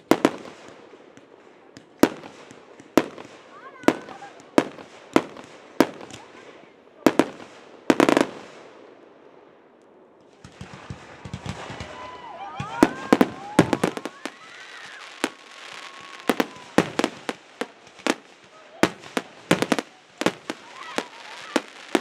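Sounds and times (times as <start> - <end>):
fireworks crackle: 0.0 - 9.0, 10.2 - 22.0.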